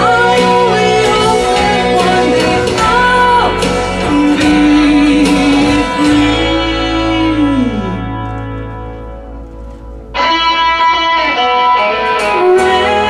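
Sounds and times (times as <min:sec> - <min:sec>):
slow rock ballad with guitar: 0:00.0 - 0:13.0.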